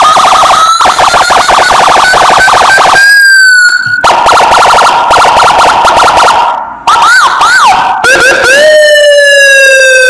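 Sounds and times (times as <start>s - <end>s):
siren steady tone: 0.0s - 8.3s
siren yelp: 0.0s - 10.0s.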